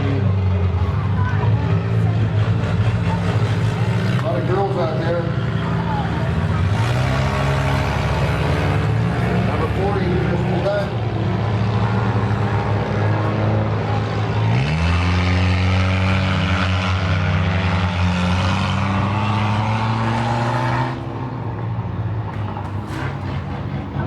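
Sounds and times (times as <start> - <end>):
engine accelerating: 0.0 - 24.0
race cars running laps: 0.0 - 24.0.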